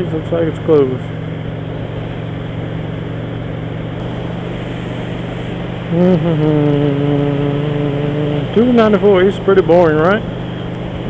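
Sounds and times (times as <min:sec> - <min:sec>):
motorcycle engine hum: 0:00.0 - 0:11.0
loud steady tone: 0:01.7 - 0:11.0.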